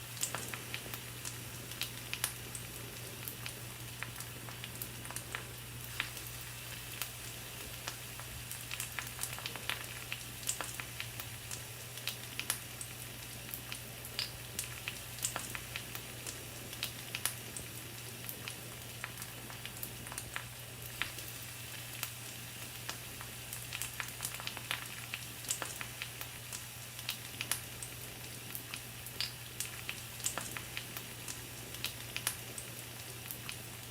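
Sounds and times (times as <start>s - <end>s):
meat sizzling on a grill: 0.0s - 33.9s
wood fire crackling and popping: 0.0s - 33.9s.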